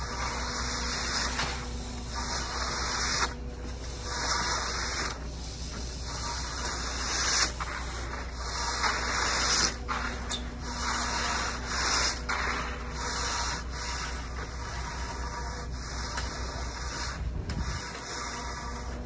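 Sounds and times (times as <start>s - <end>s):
hand float scraping wet concrete: 0.2s - 19.0s.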